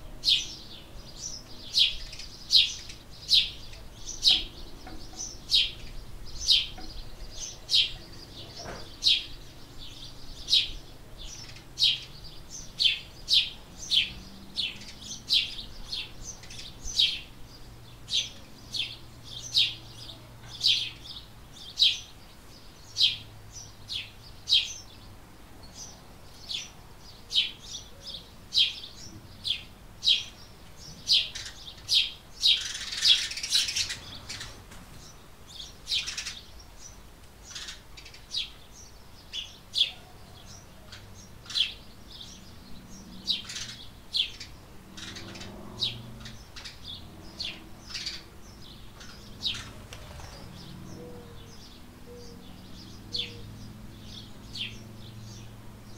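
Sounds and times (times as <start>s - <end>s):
sparrow chirping: 0.0s - 55.9s.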